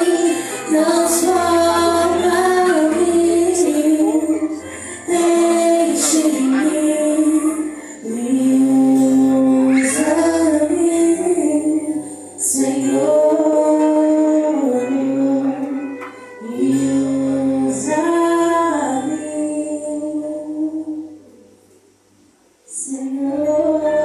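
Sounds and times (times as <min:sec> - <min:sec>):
woman singing worship song: 0:00.0 - 0:21.4, 0:22.7 - 0:24.0
instrumental accompaniment: 0:00.0 - 0:22.3.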